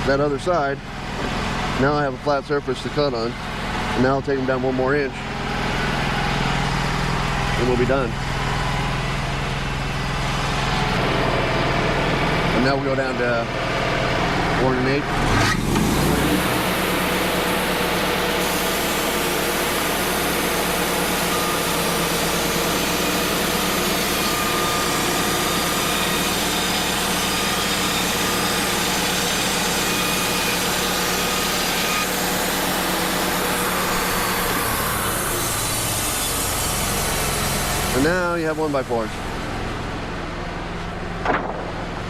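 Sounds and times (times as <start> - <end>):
band sawmill cutting boards: 0.0 - 42.0.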